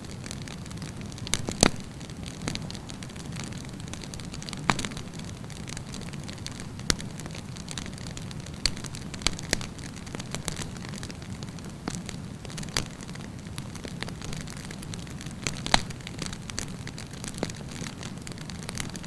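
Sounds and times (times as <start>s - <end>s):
campfire flame rumble: 0.0s - 19.0s
fire crackling and popping: 0.0s - 19.0s.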